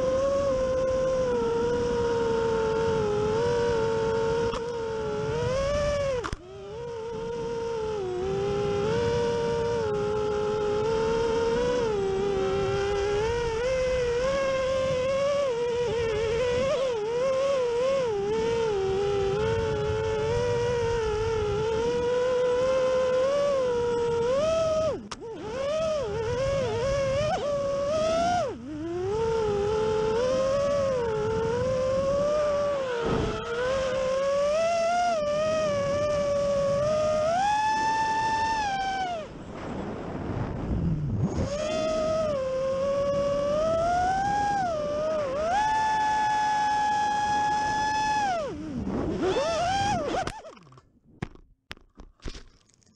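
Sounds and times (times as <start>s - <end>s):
quadcopter motors whining: 0.0s - 50.6s.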